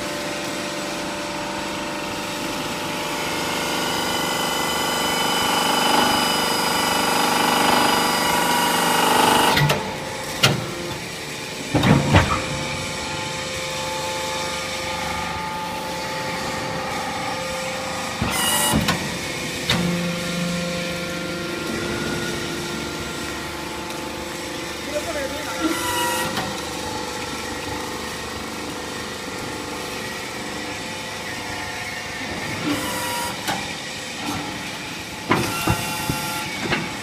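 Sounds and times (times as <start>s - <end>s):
hydraulic press hum and whine: 0.0s - 37.0s.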